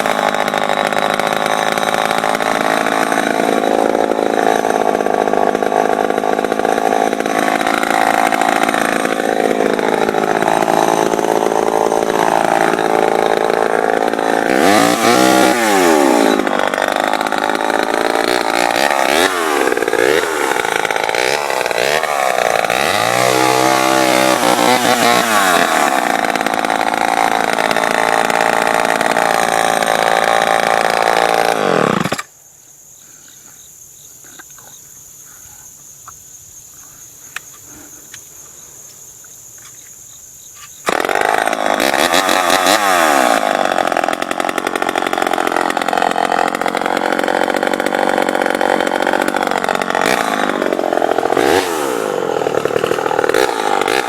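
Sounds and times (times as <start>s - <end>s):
chainsaw revving: 0.0s - 32.3s, 40.8s - 54.0s.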